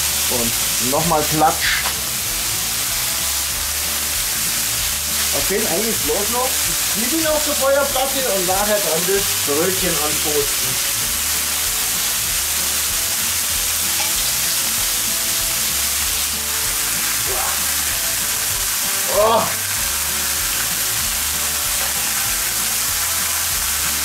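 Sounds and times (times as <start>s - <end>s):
meat sizzling on a griddle: 0.0s - 24.0s.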